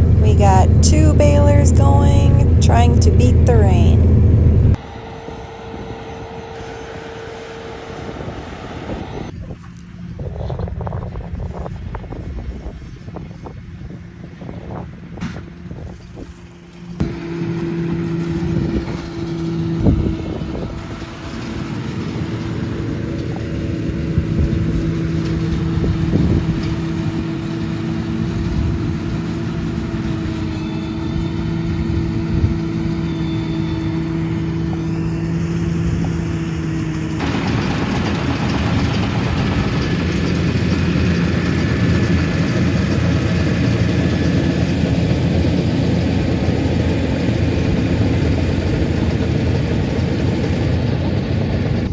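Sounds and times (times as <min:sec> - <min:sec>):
farm machinery engine running: 0:00.0 - 0:09.3, 0:17.0 - 0:51.9.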